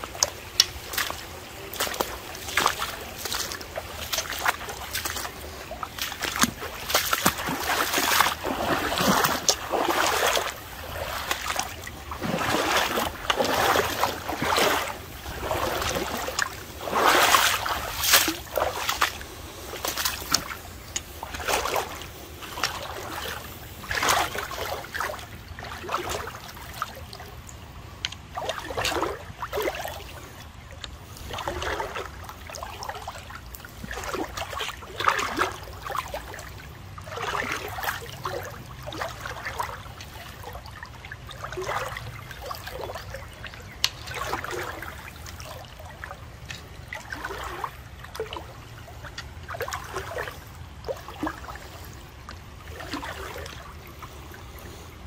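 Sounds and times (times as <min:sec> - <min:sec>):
footsteps wading through water: 0:00.0 - 0:55.0.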